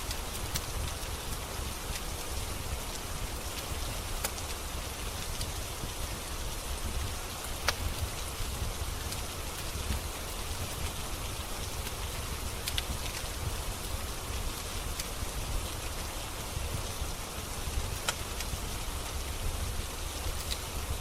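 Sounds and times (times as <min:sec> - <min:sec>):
rain hissing on a surface: 0:00.0 - 0:21.0
wood fire crackling: 0:00.0 - 0:21.0.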